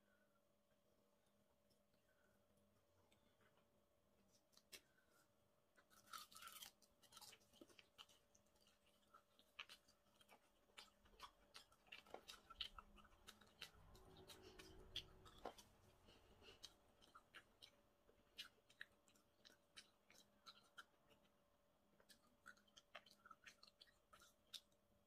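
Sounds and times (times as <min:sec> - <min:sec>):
person chewing: 0:04.3 - 0:21.4, 0:22.0 - 0:24.9.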